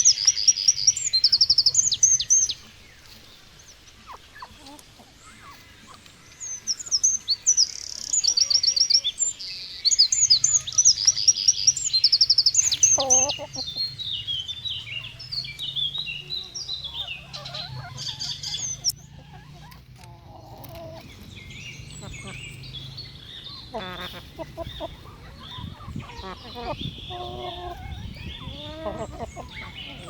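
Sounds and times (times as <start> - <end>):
songbird singing trills: 0.0 - 30.0.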